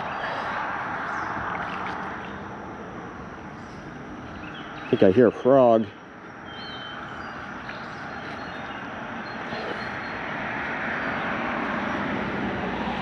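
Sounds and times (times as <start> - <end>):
passing aircraft engine: 0.0 - 13.0.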